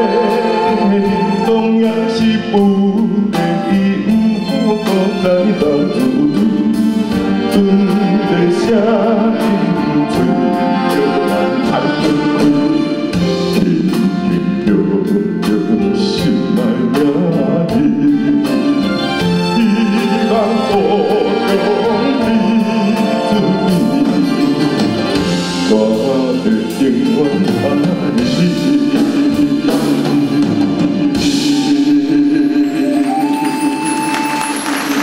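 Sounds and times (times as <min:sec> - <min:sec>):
deep male voice singing: 0:00.0 - 0:33.6
band accompaniment: 0:00.0 - 0:35.0.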